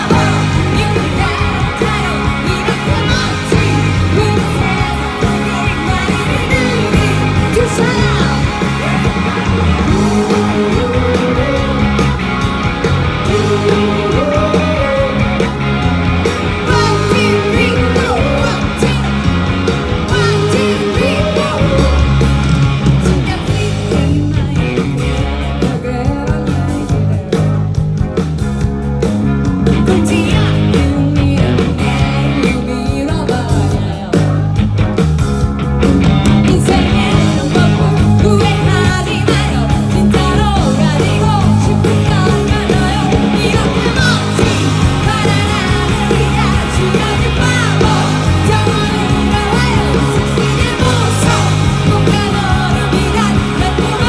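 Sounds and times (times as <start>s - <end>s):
woman singing: 0.0s - 12.2s, 13.2s - 15.4s, 16.6s - 19.3s, 20.1s - 22.3s, 23.0s - 27.4s, 29.8s - 34.6s, 36.4s - 54.0s
live rock band playing: 0.0s - 54.0s.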